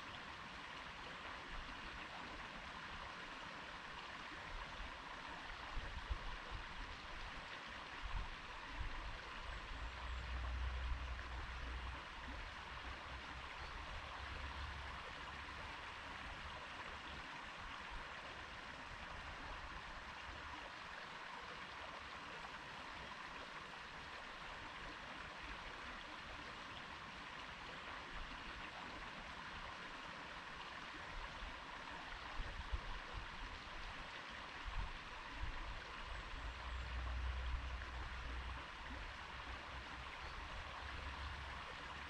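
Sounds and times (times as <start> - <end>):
stream water flowing: 0.0 - 42.0.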